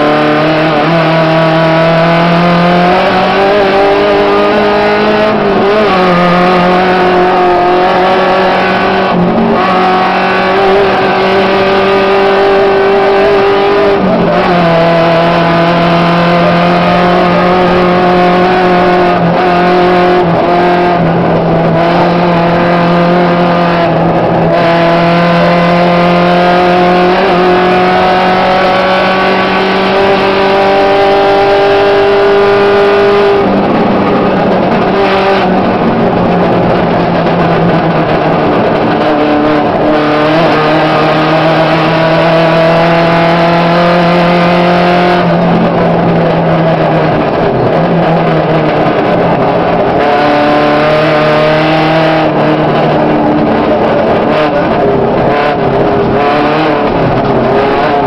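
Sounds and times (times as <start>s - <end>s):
rally car engine: 0.0s - 58.0s.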